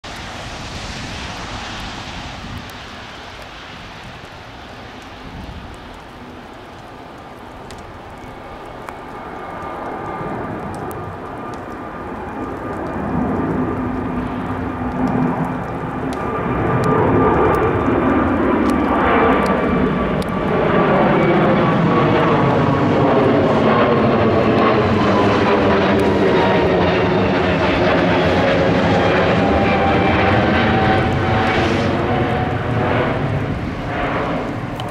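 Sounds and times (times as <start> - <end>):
jet engines roaring: 0.0 - 34.9.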